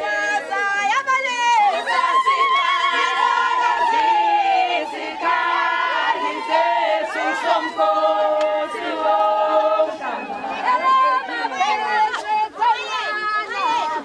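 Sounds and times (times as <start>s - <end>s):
women singing unaccompanied: 0.0s - 14.0s.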